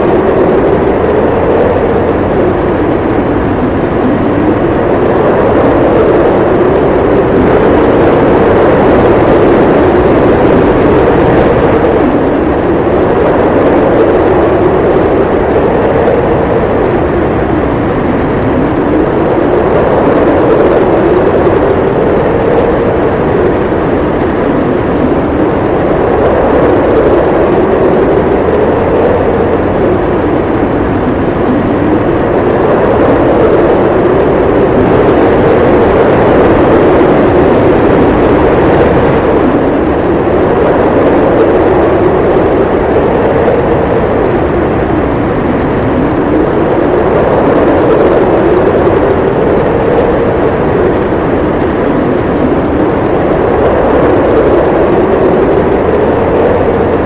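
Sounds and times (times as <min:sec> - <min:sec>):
howling wind: 0:00.0 - 0:57.0.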